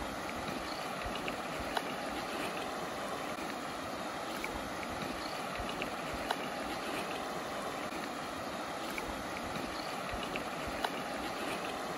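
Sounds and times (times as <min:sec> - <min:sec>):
stream rushing over stones: 0:00.0 - 0:11.9.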